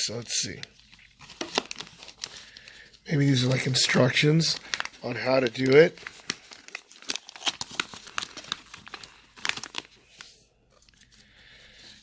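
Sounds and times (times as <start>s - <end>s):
paper crinkling and rustling: 0.4s - 12.0s.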